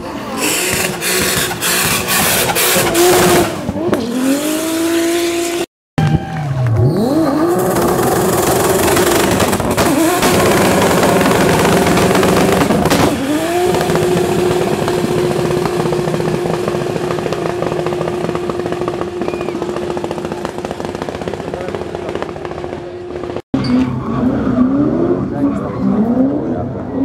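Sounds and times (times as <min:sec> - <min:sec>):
car engine at high revs: 0:00.0 - 0:05.7, 0:06.6 - 0:27.0.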